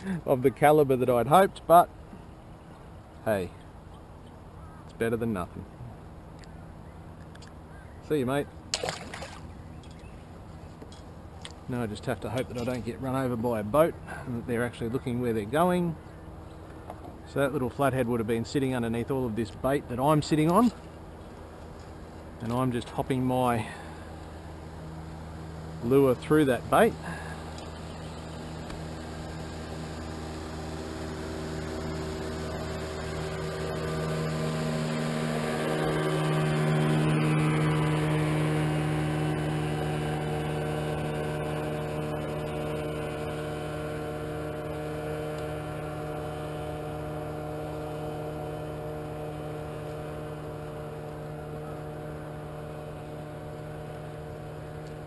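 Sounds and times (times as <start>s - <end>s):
motorboat engine passing: 0.0s - 55.0s.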